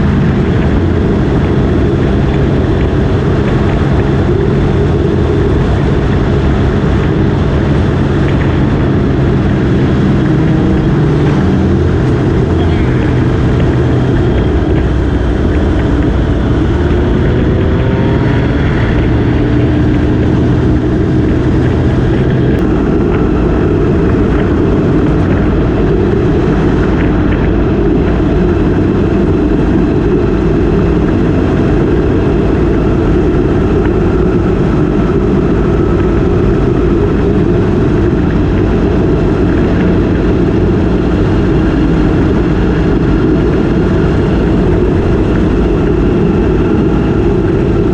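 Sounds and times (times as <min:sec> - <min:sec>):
motorcycle engine running: 0:00.0 - 0:47.9
wind rush: 0:00.0 - 0:47.9.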